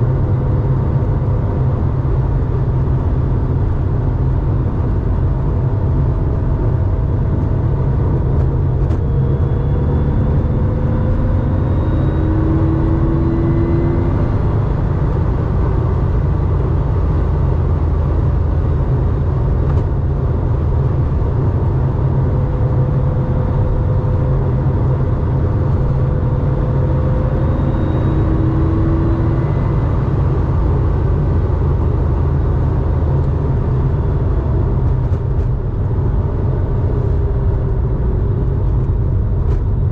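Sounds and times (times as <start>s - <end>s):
car engine low rumble: 0.0s - 39.9s
road noise: 0.0s - 39.9s.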